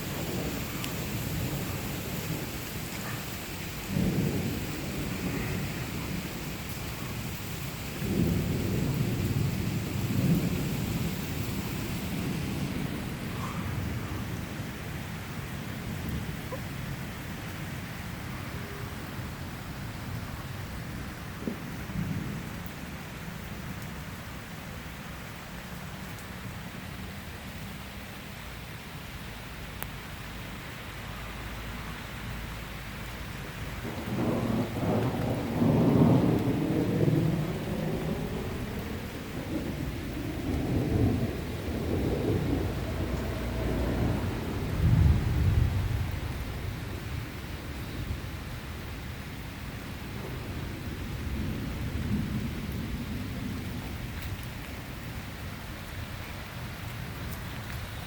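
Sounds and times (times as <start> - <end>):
distant thunder rumble: 0.0 - 23.8, 32.3 - 58.0
steady rain falling: 0.0 - 58.0.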